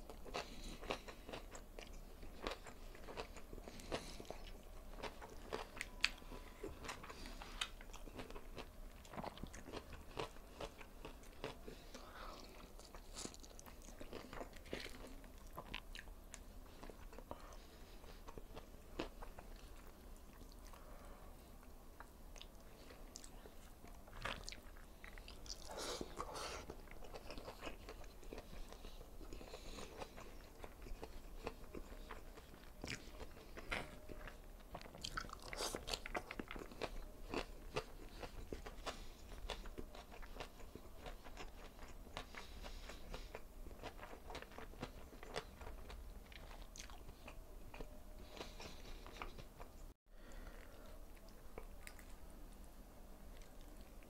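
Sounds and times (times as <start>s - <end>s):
close chewing with crisp crunches: 0.0s - 54.0s.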